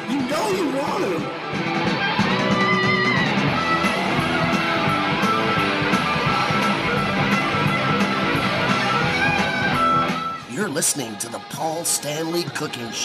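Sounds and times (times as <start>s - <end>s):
rock music with electric guitar: 0.0s - 10.5s.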